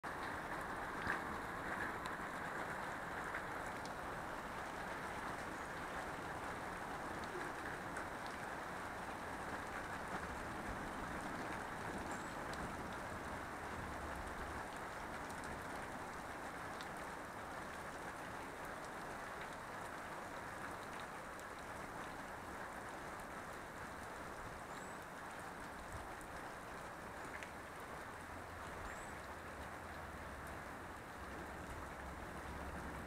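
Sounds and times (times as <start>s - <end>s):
rain falling on plants: 0.0s - 33.0s.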